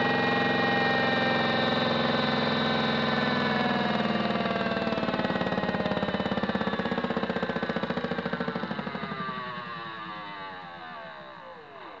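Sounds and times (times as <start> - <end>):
small motor whine winding down: 0.0 - 12.0.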